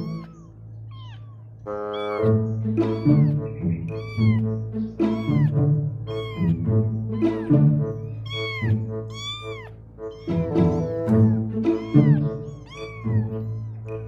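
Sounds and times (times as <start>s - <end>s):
kitten mewing: 0.0s - 14.0s
music with sustained low notes: 0.0s - 14.0s.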